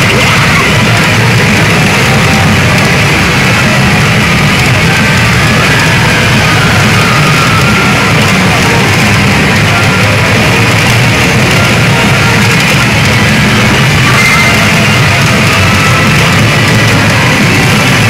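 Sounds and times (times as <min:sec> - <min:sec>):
loud music from machine speakers: 0:00.0 - 0:18.0.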